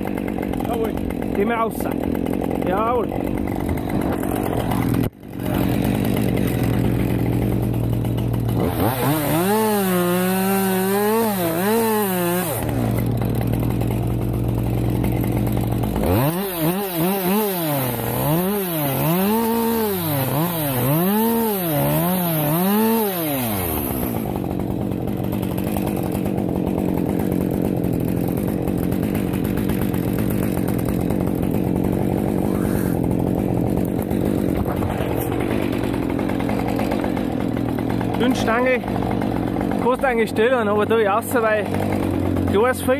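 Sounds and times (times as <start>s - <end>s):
chainsaw engine idling and revving: 0.0s - 42.9s.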